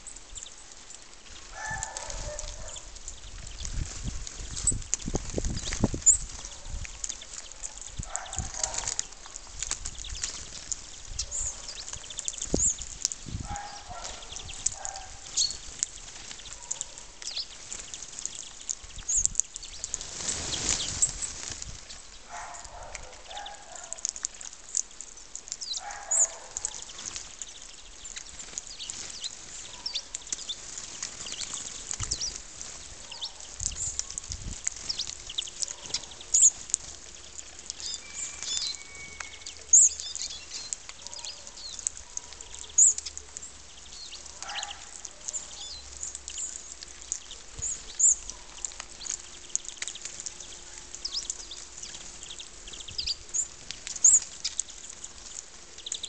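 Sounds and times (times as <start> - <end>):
small birds twittering: 0.0 - 56.0.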